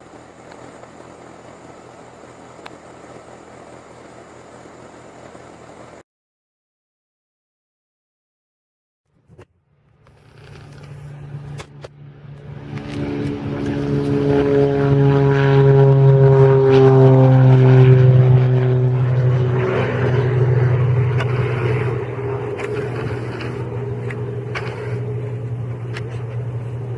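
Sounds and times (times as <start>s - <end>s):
jet engines passing overhead: 0.0s - 6.0s, 9.9s - 26.9s.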